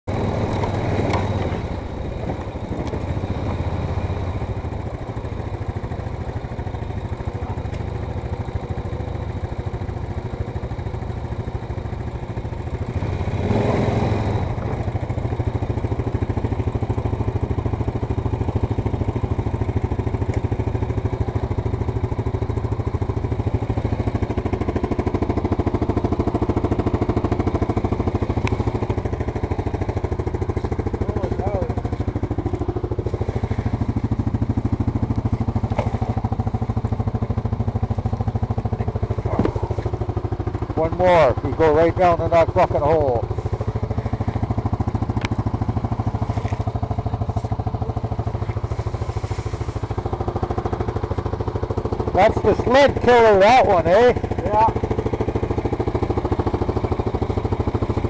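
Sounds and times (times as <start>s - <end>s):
atv engine idling: 0.1s - 58.0s.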